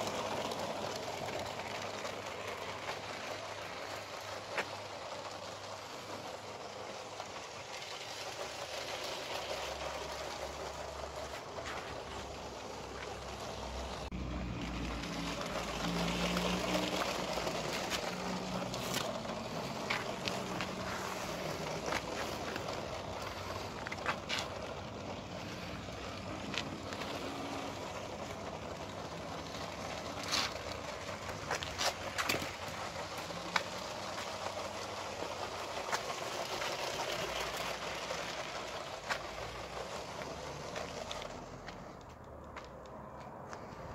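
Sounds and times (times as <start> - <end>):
toy train motor whirring: 0.0 - 42.4
wheels clicking on track joints: 0.0 - 43.9.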